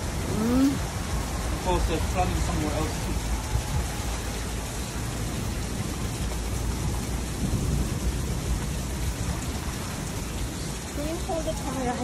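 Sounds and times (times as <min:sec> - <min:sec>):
heavy rain splashing on street: 0:00.0 - 0:12.0.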